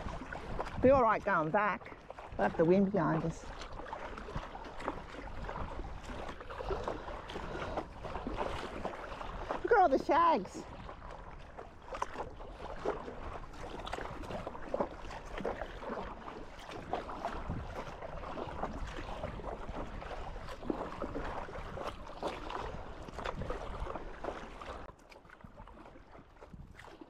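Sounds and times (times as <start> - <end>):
wind on microphone: 0.0 - 24.8, 26.4 - 27.0
paddle strokes splashing water: 0.0 - 27.0.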